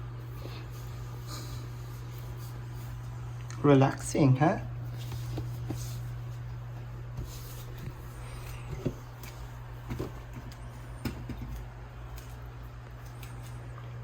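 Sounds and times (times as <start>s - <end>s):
water pump humming: 0.0s - 14.0s.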